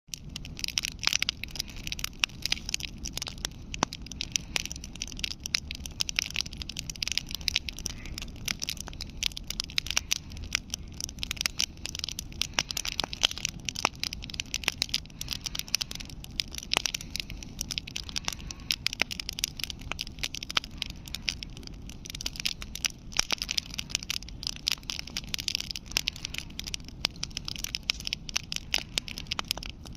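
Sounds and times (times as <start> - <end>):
burning wood crackling: 0.1 - 29.9
low fire rumble: 0.1 - 29.9
fire hiss: 0.2 - 29.9.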